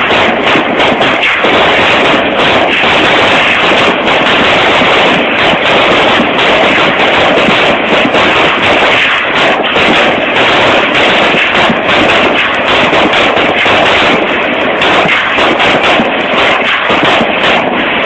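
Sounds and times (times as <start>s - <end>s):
gunfire and explosions: 0.0s - 18.0s.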